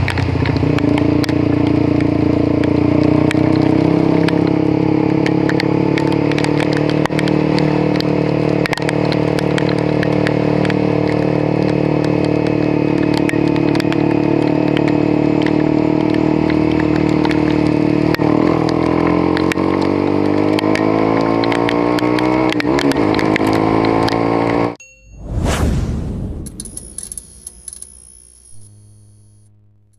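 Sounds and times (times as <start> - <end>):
sharp ticks: 0.0 - 4.5, 5.2 - 24.2, 26.4 - 29.4
motorcycle engine accelerating: 0.0 - 24.8.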